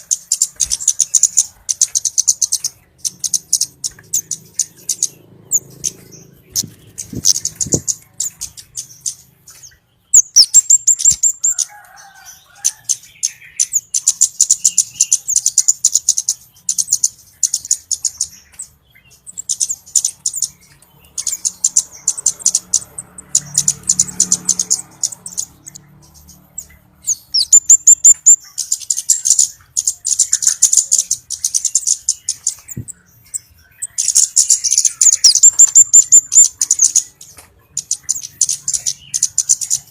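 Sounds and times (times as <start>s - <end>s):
high sharp bird ticking chips: 0.0s - 39.9s.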